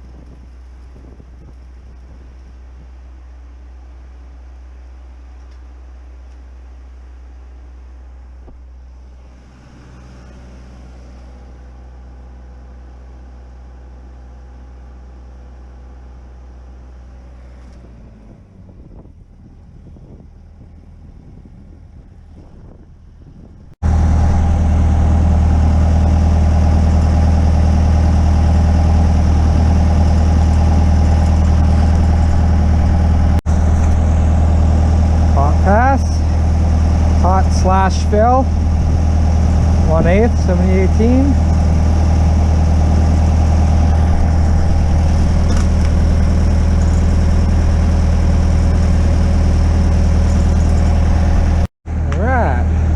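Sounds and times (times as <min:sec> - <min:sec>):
engine drone: 0:00.0 - 0:52.9.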